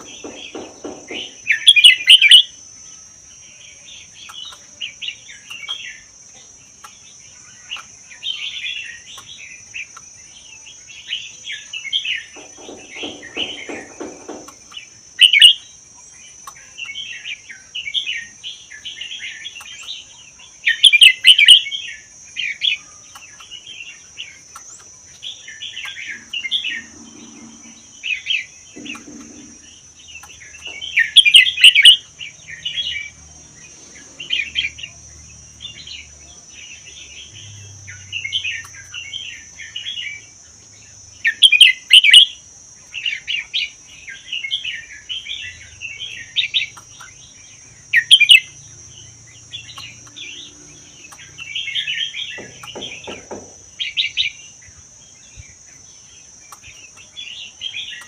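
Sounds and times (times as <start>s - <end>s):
bird singing chattering phrases: 0.0s - 58.0s.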